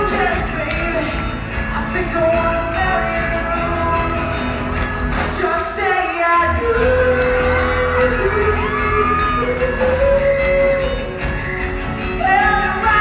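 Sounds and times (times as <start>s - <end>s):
live music with singer: 0.0s - 13.0s.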